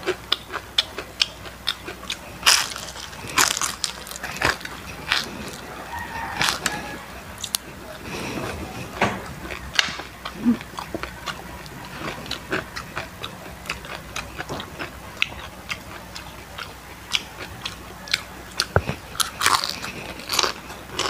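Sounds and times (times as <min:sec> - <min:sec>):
chewing crispy chicken skin: 0:00.0 - 0:21.0.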